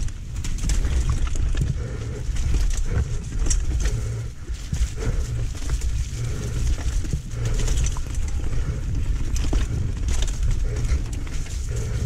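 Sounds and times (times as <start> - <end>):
bike rattling and knocking: 0.0 - 12.0.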